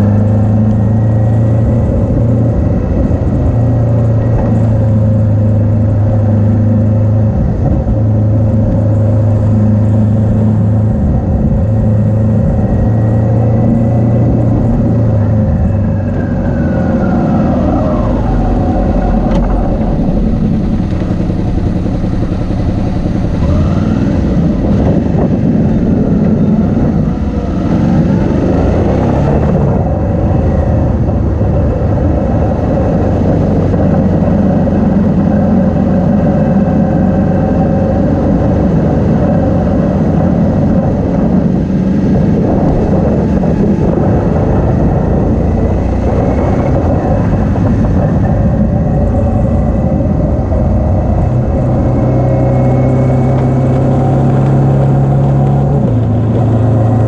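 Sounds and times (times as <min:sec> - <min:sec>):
motorcycle engine accelerating: 0:00.0 - 0:57.0
road wind rush: 0:00.0 - 0:57.0.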